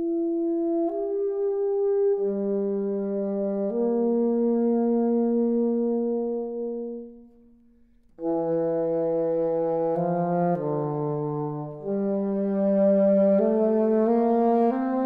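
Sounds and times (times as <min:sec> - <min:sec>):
solo alto saxophone melody: 0:00.0 - 0:15.0.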